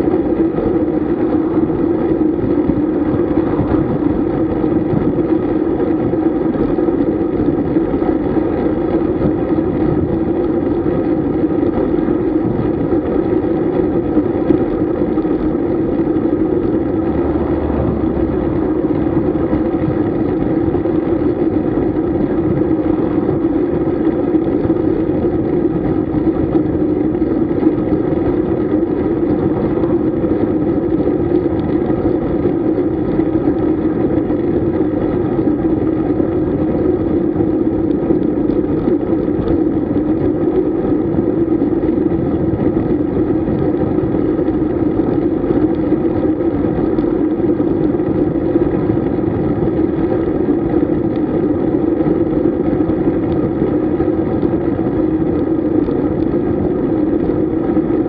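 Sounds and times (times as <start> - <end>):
bicycle tyre noise: 0.0 - 58.0
wind rush: 0.0 - 58.0.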